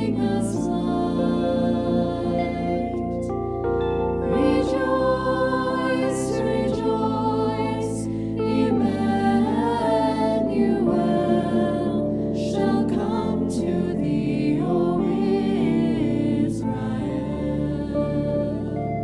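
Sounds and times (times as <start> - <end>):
organ-like accompaniment: 0.0 - 19.0
voices singing a hymn: 0.0 - 19.0.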